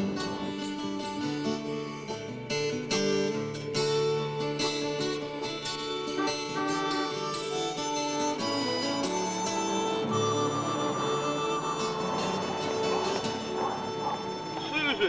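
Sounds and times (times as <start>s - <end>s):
plucked strings music: 0.0s - 15.0s.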